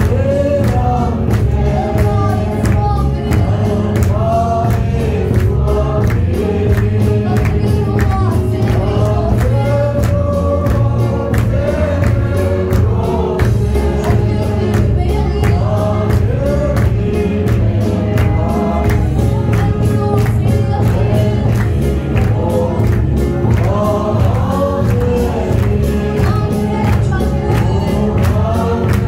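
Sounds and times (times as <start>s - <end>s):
congregation singing gospel song: 0.0s - 29.0s
steady beat: 0.0s - 29.0s.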